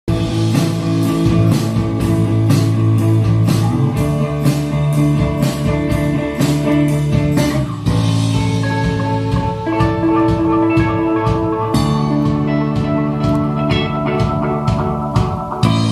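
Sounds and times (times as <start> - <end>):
drum and cymbal hits: 0.1 - 15.9
rock band playing: 0.1 - 15.9.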